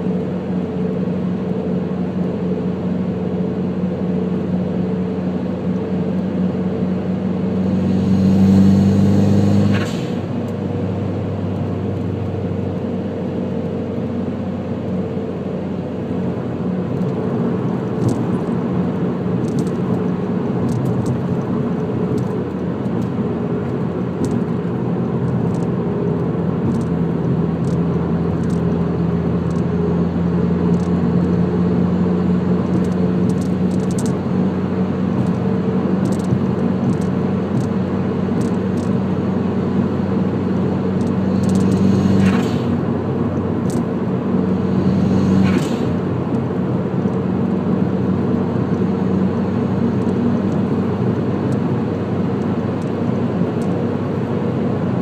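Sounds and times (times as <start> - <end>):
car engine droning at cruise: 0.0 - 55.0
road noise: 0.0 - 55.0.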